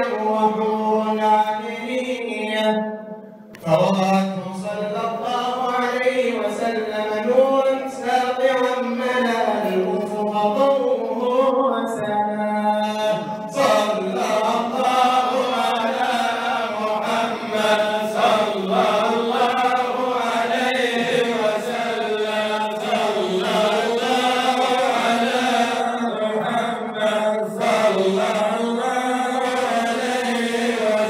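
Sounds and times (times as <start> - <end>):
men singing along: 3.6 - 31.0.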